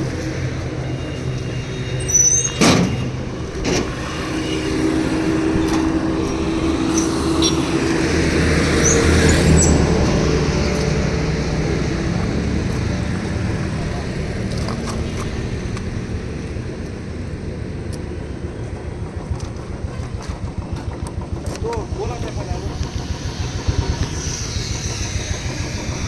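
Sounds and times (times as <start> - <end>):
vehicle engine running: 3.0 - 26.0.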